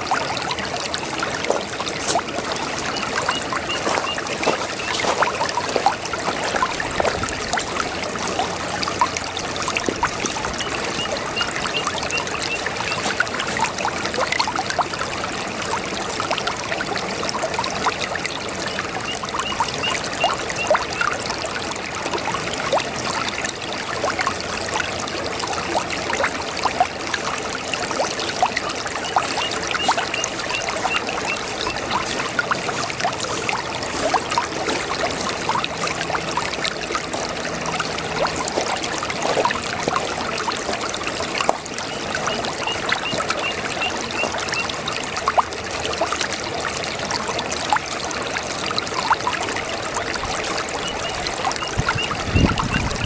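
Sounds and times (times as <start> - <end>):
brook babbling: 0.0 - 53.0.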